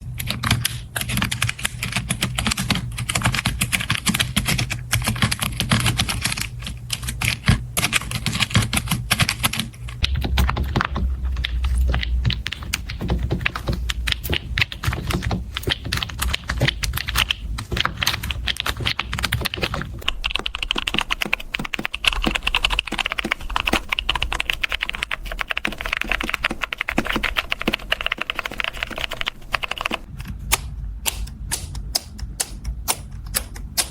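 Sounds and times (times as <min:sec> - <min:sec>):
fast typing on keyboard: 0:00.0 - 0:30.1.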